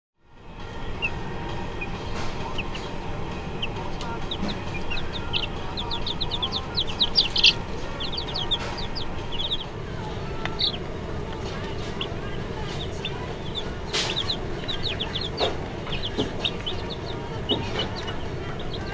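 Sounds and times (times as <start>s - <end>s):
steady low rumble: 0.4s - 18.9s
baby chicks peeping: 0.5s - 18.9s.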